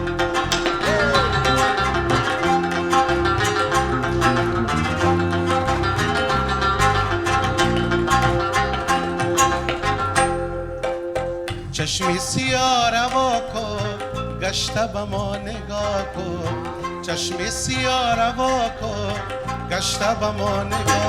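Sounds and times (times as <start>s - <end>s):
plucked lute runs: 0.0s - 21.0s
sustained accompanying tones: 0.0s - 21.0s
tabla drumming: 0.0s - 21.0s.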